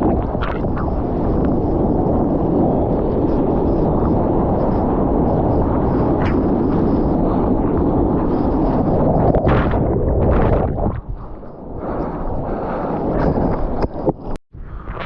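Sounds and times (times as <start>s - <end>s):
muffled water and wind rumble: 0.0s - 15.0s.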